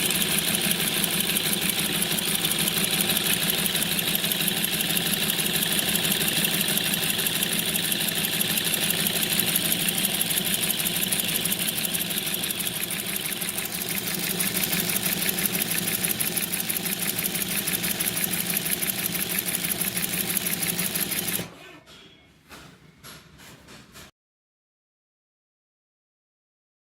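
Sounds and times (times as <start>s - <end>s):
sewing machine clattering: 0.0s - 21.6s.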